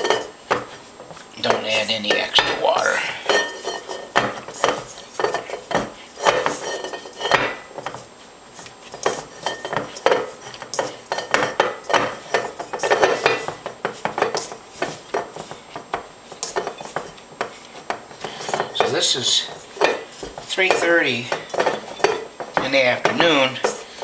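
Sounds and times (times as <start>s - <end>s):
utensil scraping a steel bowl: 0.0s - 15.7s, 16.4s - 24.0s.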